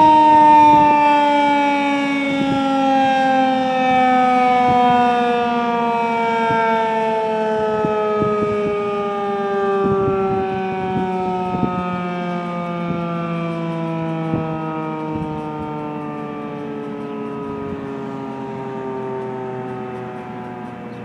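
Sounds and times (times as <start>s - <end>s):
tornado siren winding down: 0.0s - 21.0s.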